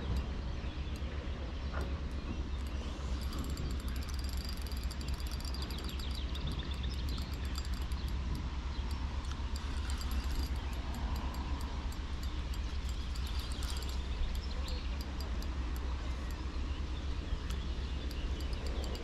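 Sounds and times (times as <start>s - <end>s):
faint high chirping: 0.0s - 19.0s
wind rumble on microphone: 0.0s - 19.0s.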